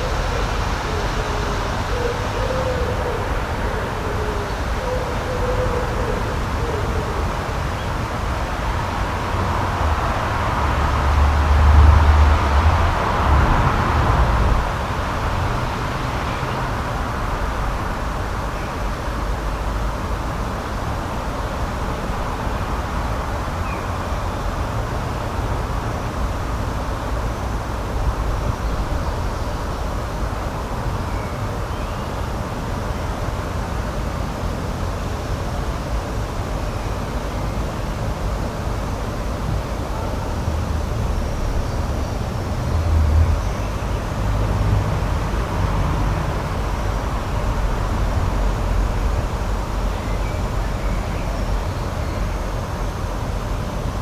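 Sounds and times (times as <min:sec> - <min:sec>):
outdoor background rush: 0:00.0 - 0:54.0.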